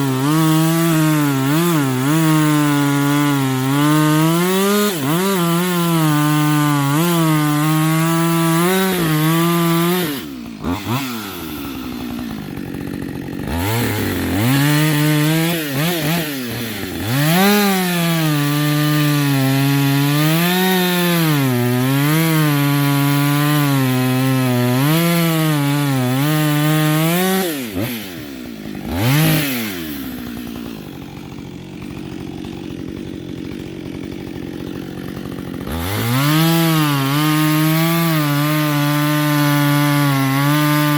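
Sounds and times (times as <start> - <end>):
chainsaw cutting wood: 0.0 - 40.9
chainsaw idling with throttle blips: 0.0 - 40.9.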